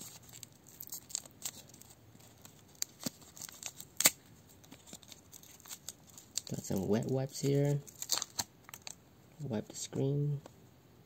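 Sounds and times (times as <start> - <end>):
plastic sachet crinkling and tearing: 0.0 - 9.0.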